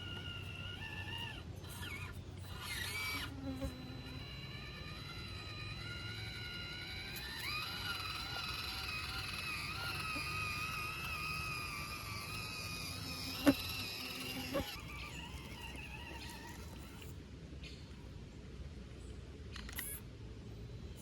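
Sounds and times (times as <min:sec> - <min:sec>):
small electric motor whining: 0:00.0 - 0:17.2.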